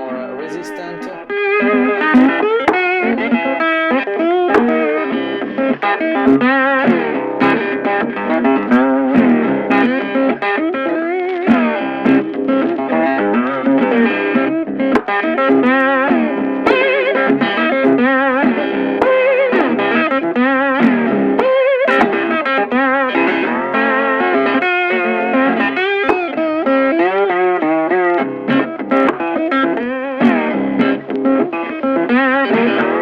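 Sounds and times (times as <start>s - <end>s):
electric guitar melodic lead: 0.0s - 33.0s.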